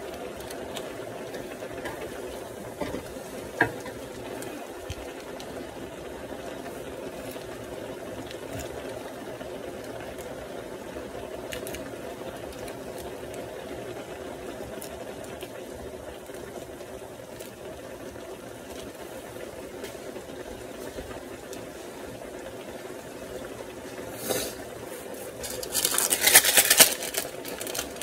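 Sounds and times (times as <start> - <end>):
noodles boiling hard: 0.0 - 28.0.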